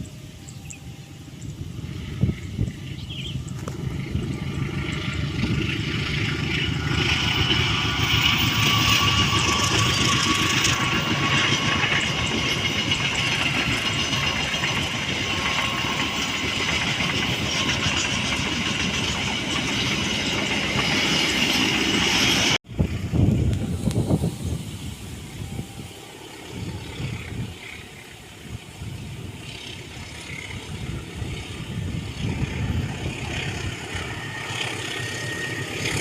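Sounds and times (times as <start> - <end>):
high ringing tone: 0.0 - 22.5, 23.5 - 36.0
train wheels rumbling on rails: 0.0 - 36.0.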